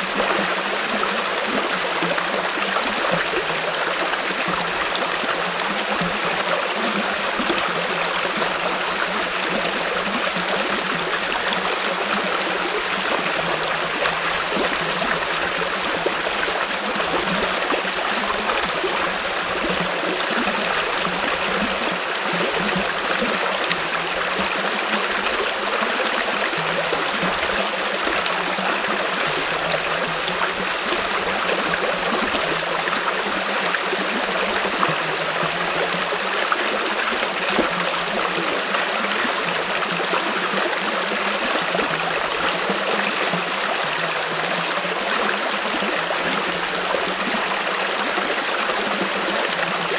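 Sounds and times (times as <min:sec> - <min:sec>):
stream rushing and trickling: 0:00.0 - 0:49.9.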